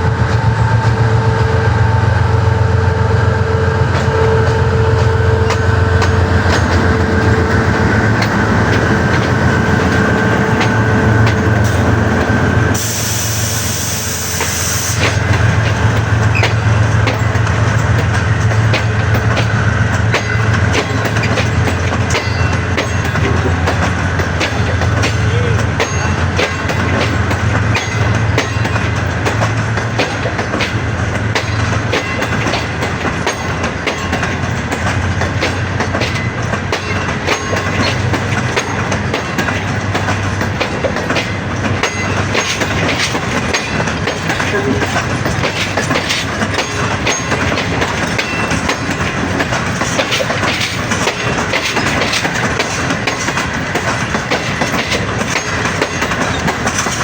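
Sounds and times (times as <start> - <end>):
train wheels clattering: 0.0 - 57.0.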